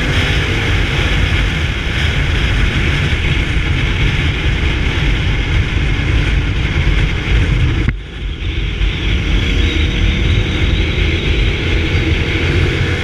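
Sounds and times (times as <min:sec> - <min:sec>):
motorcycle engine rumble: 0:00.0 - 0:13.0
wind noise on microphone: 0:00.0 - 0:13.0.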